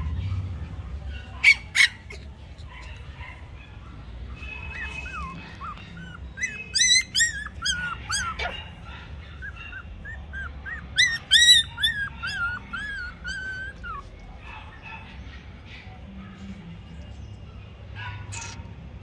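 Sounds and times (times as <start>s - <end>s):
puppies yipping and whining: 0.0s - 16.5s, 17.9s - 19.0s.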